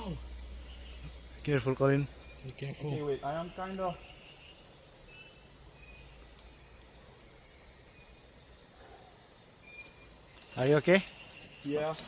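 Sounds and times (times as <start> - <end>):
insect high-pitched trill: 0.0 - 12.0
short insect chirps: 0.0 - 12.0.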